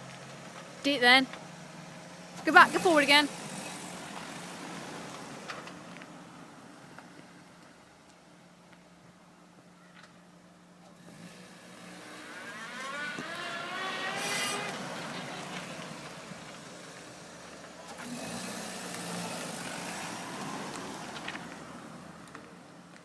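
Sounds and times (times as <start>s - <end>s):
car moving off with whine: 0.0s - 8.0s, 10.8s - 23.0s.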